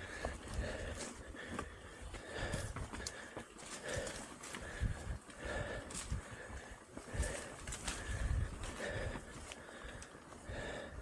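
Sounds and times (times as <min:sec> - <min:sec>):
bike rolling on dirt trail: 0:00.0 - 0:10.9
person breathing heavily: 0:00.0 - 0:11.0.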